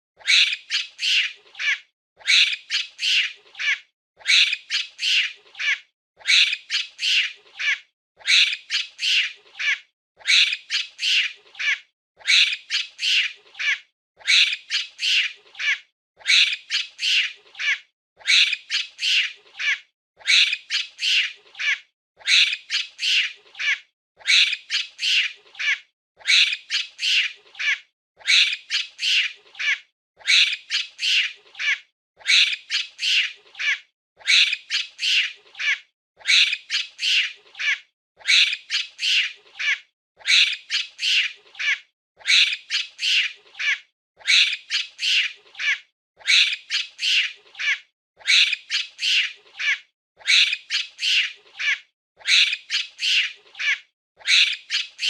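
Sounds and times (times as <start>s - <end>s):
monkey screeching: 0.2s - 55.0s.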